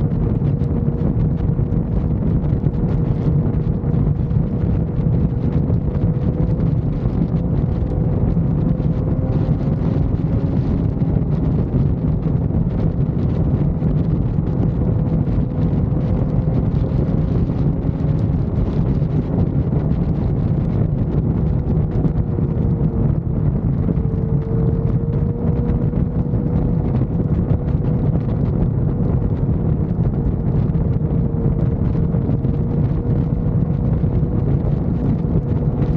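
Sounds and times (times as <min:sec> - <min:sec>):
motorcycle engine drone: 0:00.0 - 0:35.9
wind buffeting on microphone: 0:00.0 - 0:35.9.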